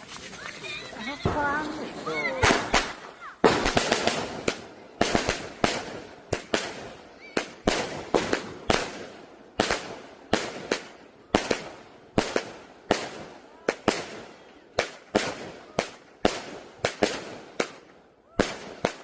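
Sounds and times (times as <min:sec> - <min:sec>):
fireworks cake bangs: 0:00.7 - 0:19.0.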